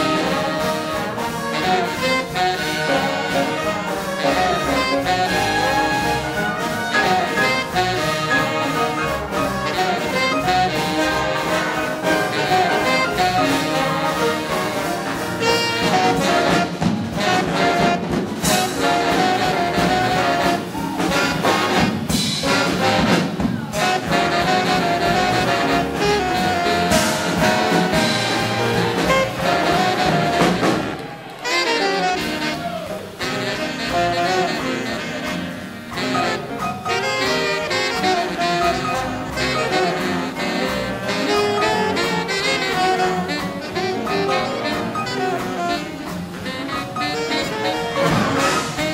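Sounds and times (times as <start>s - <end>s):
big band playing swing jazz: 0.0s - 48.9s.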